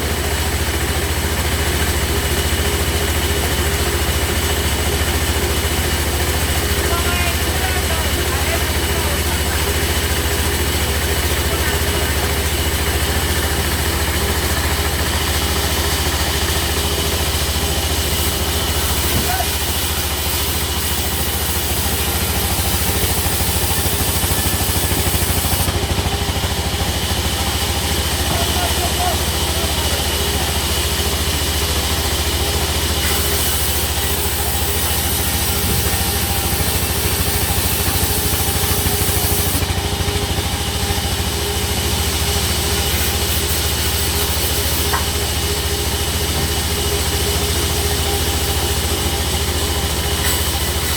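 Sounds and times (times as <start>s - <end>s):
sawmill engine throbbing: 0.0s - 50.9s.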